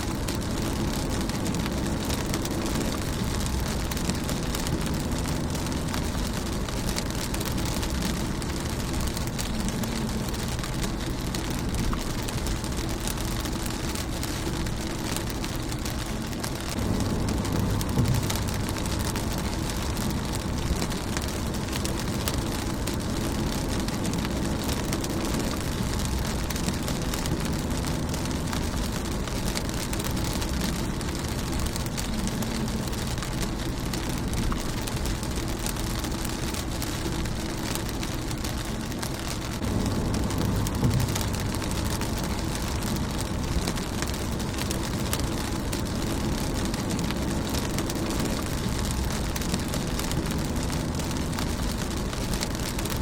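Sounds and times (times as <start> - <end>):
low rumble: 0.0 - 53.0
rain on a car windshield: 0.0 - 53.0.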